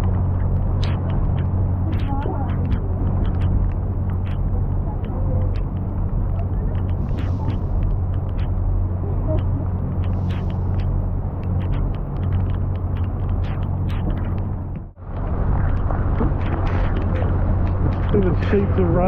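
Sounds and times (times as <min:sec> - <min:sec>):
boat engine droning: 0:00.0 - 0:19.0
raindrops ticking: 0:00.0 - 0:19.0.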